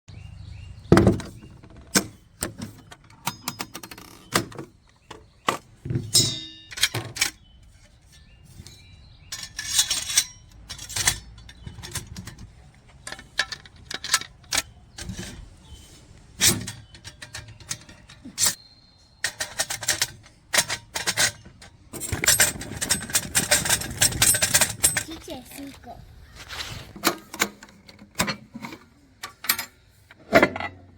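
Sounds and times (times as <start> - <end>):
metal parts clanking: 0.9 - 25.8, 26.4 - 30.9.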